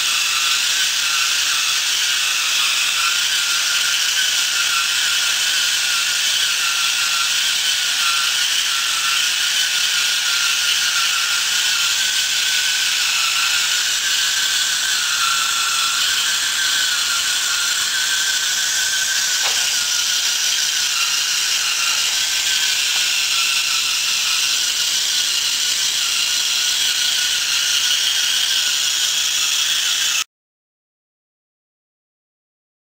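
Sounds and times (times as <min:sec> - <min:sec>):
electric gear motor whirring: 0:00.0 - 0:30.2.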